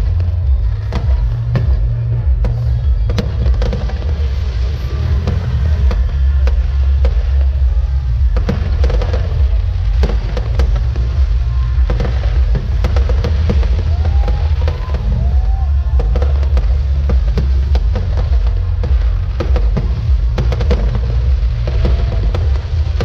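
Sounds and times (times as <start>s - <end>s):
fireworks bangs and crackles: 0.0s - 23.0s
low rumble: 0.0s - 23.0s.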